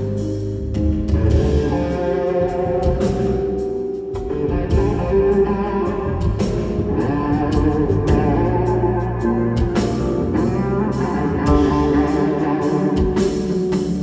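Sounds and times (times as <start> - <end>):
bass: 0.0 - 14.0
drums: 0.0 - 14.0
slide electric guitar melody: 0.0 - 14.0.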